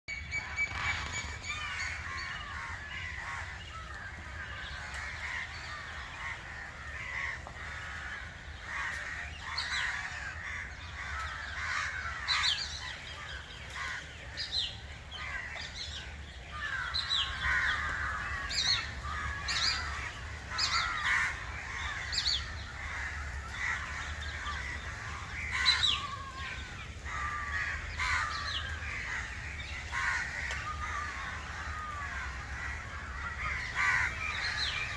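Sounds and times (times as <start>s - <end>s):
birds calling and chirping: 0.1s - 34.9s.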